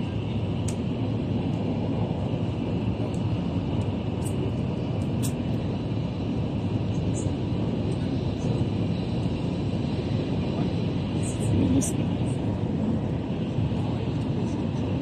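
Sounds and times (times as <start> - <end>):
train rumble inside cabin: 0.0 - 15.0.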